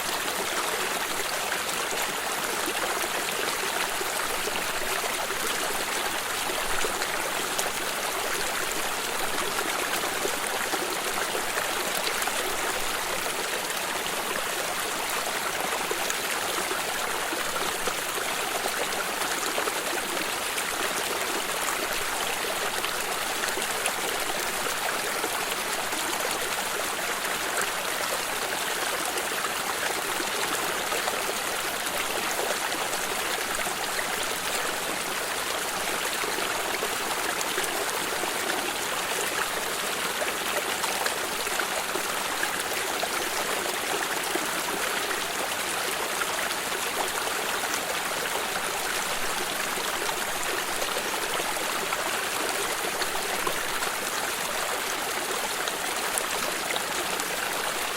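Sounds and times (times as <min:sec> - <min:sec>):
stream running over stones: 0:00.0 - 0:57.9.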